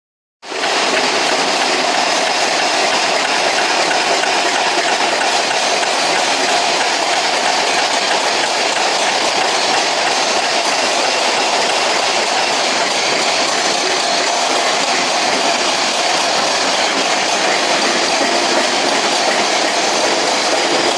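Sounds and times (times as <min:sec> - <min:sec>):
excavator engine and clatter: 0:00.5 - 0:20.9.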